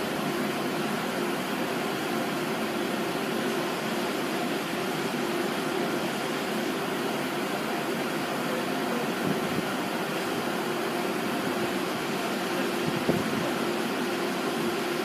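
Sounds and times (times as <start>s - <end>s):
train humming at platform: 0.0s - 15.0s.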